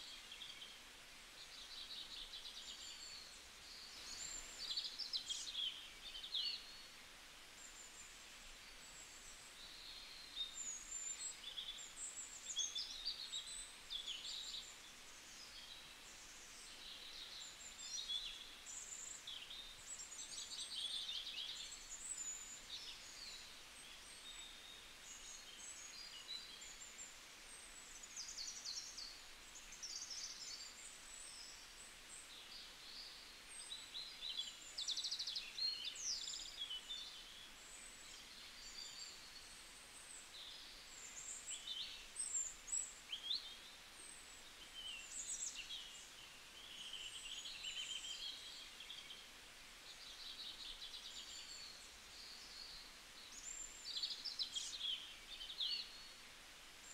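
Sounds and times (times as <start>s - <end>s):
faint steady hiss: 0.0s - 56.9s
small birds chirping: 0.0s - 56.9s.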